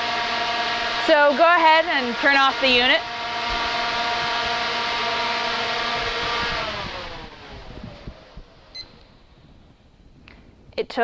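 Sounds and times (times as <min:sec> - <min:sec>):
fan motor whine spinning down: 0:00.0 - 0:11.0.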